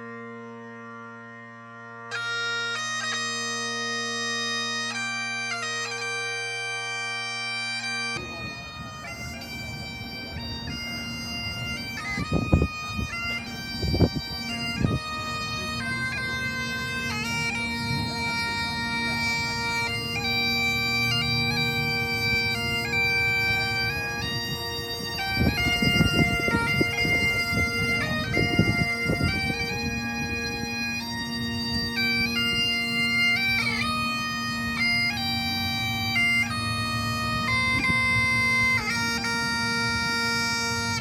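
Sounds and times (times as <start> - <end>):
bagpipes playing a melody: 0.0 - 41.0.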